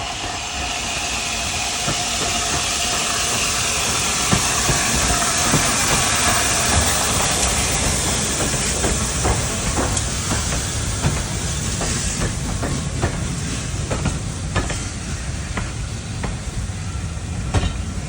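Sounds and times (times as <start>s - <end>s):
steam hissing: 0.0s - 18.0s
train wheels clicking on track: 0.0s - 18.0s.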